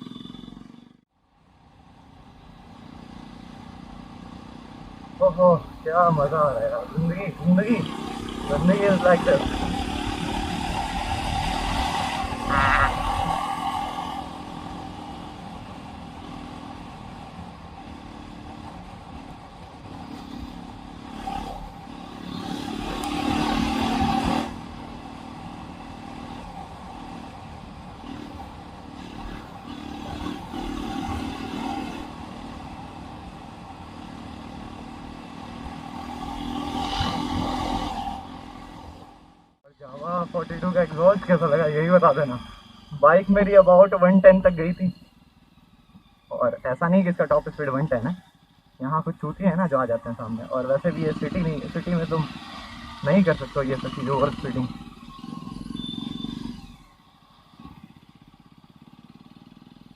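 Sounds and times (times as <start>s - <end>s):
motorcycle engine revving: 0.0s - 1.1s, 2.5s - 59.9s.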